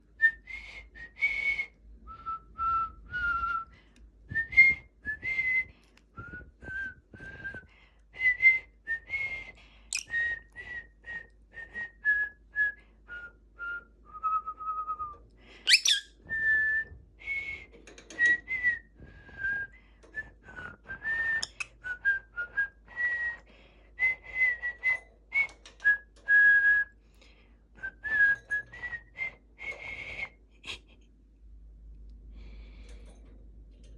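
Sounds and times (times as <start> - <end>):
person whistling a melody: 0.2 - 27.0, 27.8 - 30.4.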